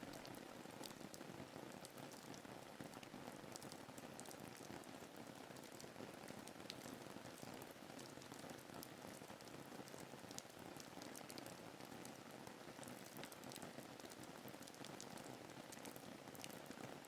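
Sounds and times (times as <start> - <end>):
soft hiss of rain: 0.0 - 17.0.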